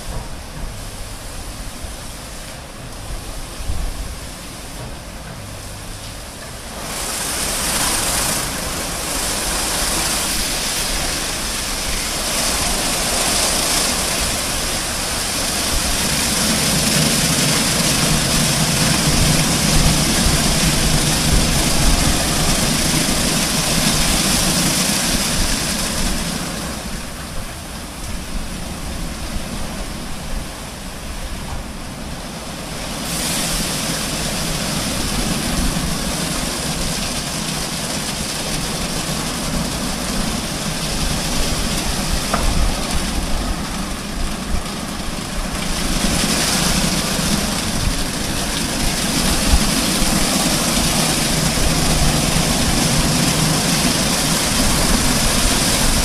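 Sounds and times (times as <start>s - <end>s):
water jets rushing: 0.0s - 56.0s.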